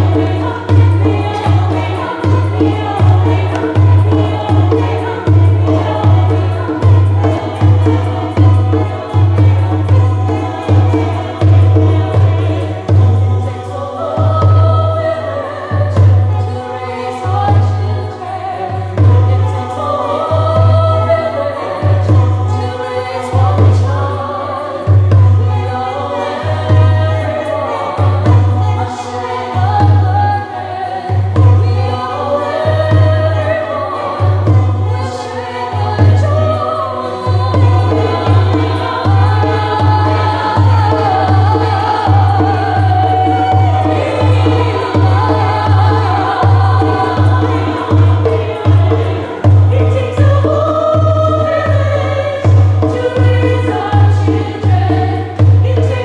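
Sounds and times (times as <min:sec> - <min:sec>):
women's chorus singing in harmony: 0:00.0 - 0:56.0.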